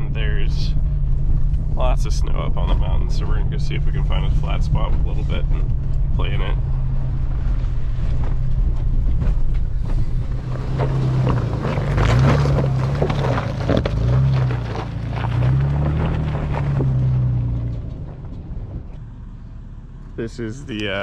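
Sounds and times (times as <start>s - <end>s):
car engine revving: 0.0s - 21.0s
tyres crunching and rattling: 0.0s - 21.0s.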